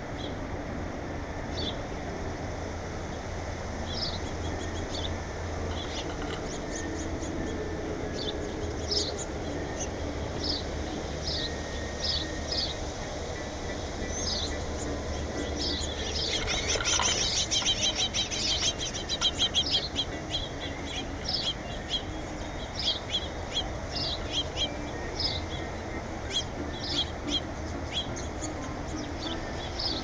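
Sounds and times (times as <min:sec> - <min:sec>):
small birds chirping: 0:03.8 - 0:30.0.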